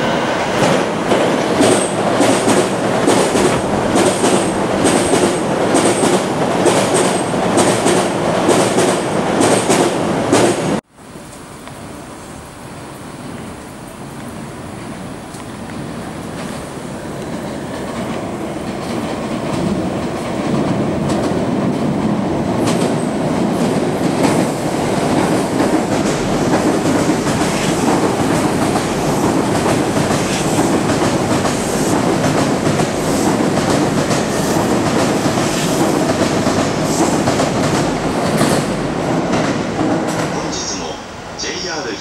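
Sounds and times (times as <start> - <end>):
electric train passing at speed: 0.0 - 42.0.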